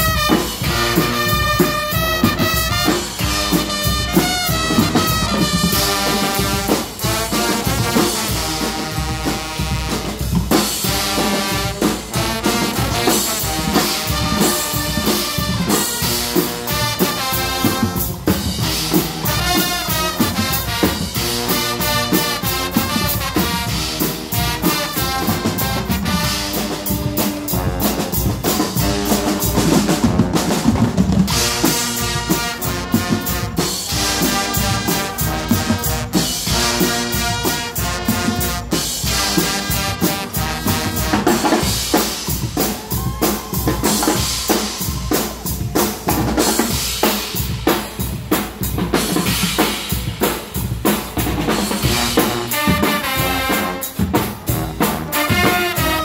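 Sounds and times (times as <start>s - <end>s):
brass band playing: 0.0s - 56.0s
drum kit beat: 0.0s - 56.0s.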